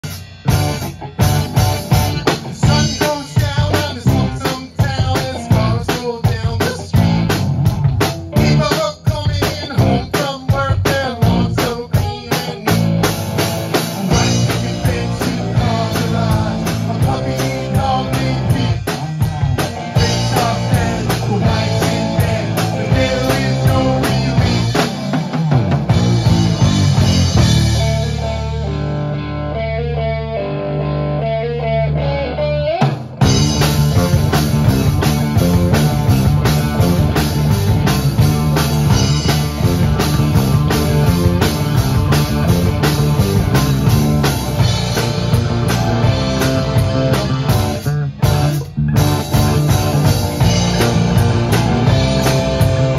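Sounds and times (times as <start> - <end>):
drum kit: 0.0 - 29.3, 32.6 - 52.9
electric guitars: 0.0 - 52.9.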